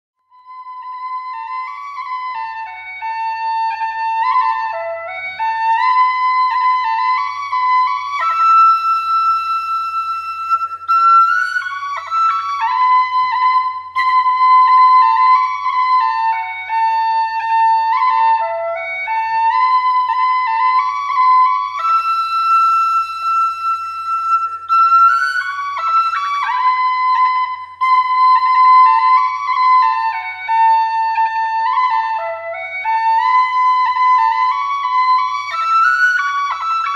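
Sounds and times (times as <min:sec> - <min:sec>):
flute-like melody: 0:00.2 - 0:36.9.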